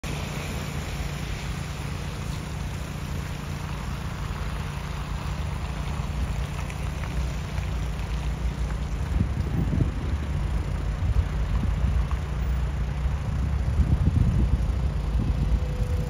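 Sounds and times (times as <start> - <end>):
low traffic rumble: 0.0 - 16.0
tyres hissing on slushy road: 0.0 - 16.0.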